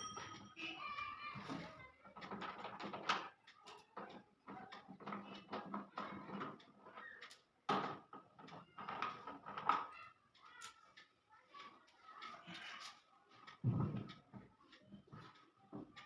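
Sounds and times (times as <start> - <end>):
hand tools clicking and knocking: 0.0 - 16.0.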